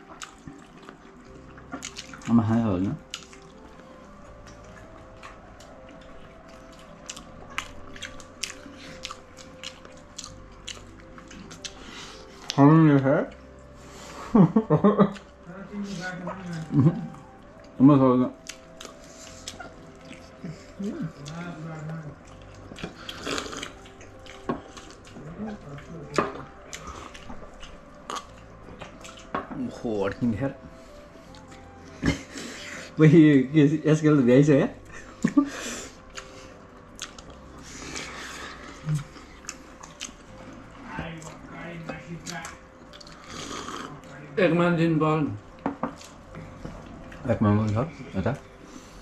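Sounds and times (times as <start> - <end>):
people chewing eggs: 0.0 - 49.0.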